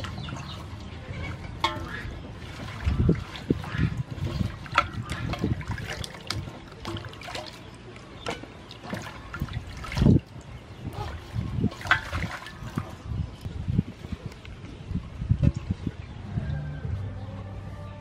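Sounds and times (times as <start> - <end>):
water splashing and sloshing in basin: 0.0 - 16.1.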